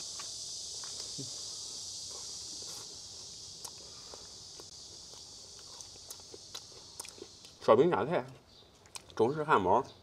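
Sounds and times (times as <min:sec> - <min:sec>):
steady high hiss: 0:00.0 - 0:08.2.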